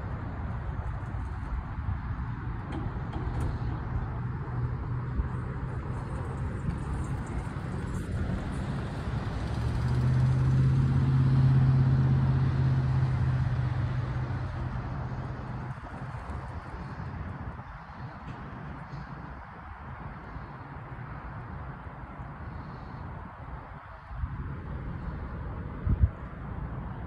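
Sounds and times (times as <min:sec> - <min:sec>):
road traffic rumbling: 0:00.0 - 0:27.0
vehicle engine drone passing: 0:00.0 - 0:27.0.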